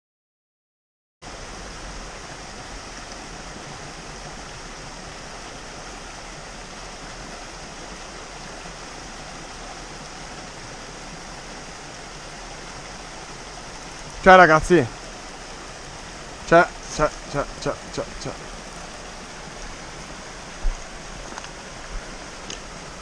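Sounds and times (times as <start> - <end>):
waterfall and stream rushing: 1.2 - 23.0.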